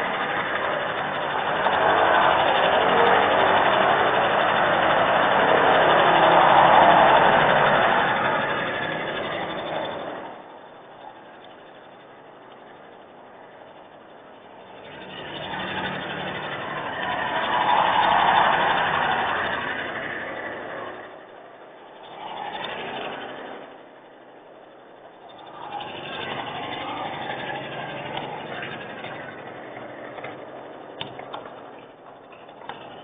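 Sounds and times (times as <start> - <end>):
vehicles passing on wet road: 0.0 - 33.0.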